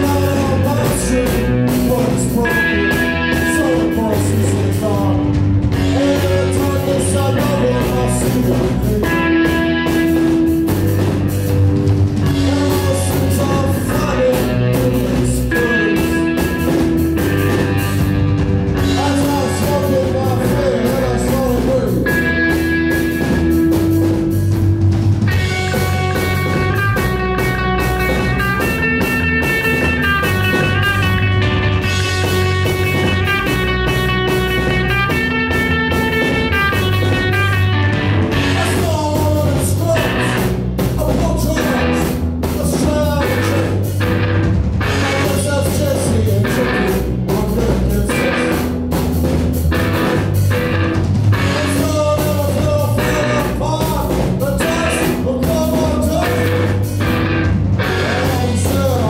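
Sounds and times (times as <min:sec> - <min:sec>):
man singing: 0:00.0 - 0:11.3, 0:12.2 - 0:18.1, 0:18.7 - 0:24.5, 0:25.3 - 0:48.8, 0:51.4 - 0:57.1, 0:57.8 - 0:59.0
drums hitting hard: 0:00.0 - 0:59.0
ringing electric guitar: 0:00.0 - 0:59.0
steady bass: 0:00.0 - 0:59.0.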